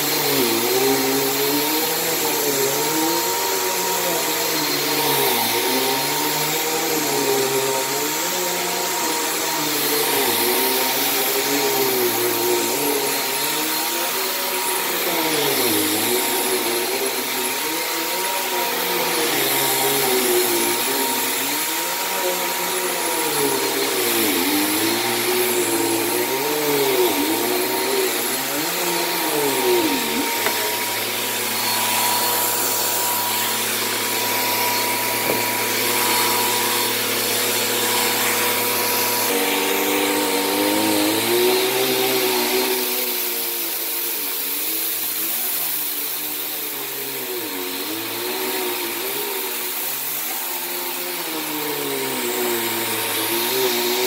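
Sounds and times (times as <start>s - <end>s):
upright vacuum running on carpet: 0.0s - 54.0s.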